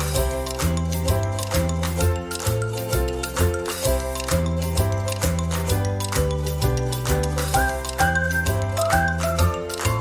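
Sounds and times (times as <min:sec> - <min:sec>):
percussive beat: 0:00.0 - 0:10.0.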